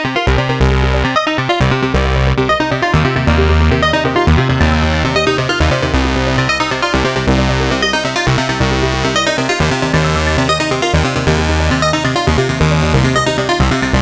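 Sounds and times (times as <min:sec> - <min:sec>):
heavy bassline: 0:00.0 - 0:14.0
synth notes: 0:00.0 - 0:14.0
steady electronic beat: 0:01.4 - 0:14.0.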